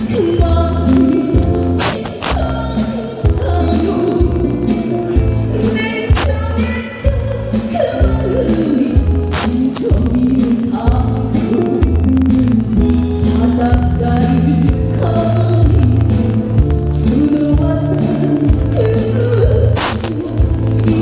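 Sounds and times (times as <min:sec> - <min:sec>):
backing music with bass and beat: 0:00.0 - 0:21.0
woman singing: 0:00.0 - 0:21.0.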